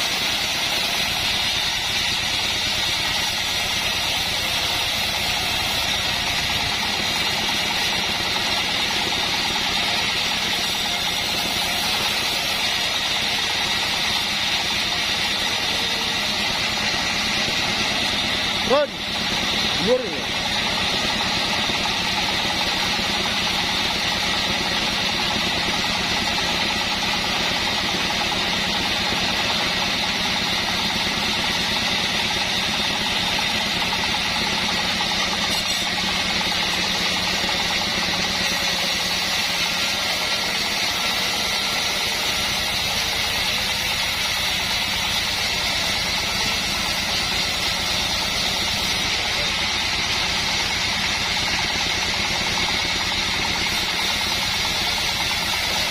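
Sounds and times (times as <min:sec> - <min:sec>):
sawmill engine running: 0:00.0 - 0:55.9.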